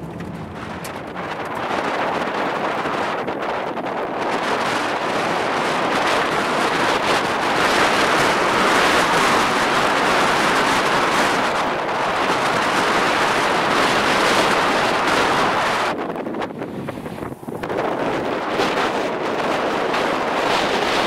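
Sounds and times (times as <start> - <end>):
strong wind rushing in gusts: 0.0 - 21.0.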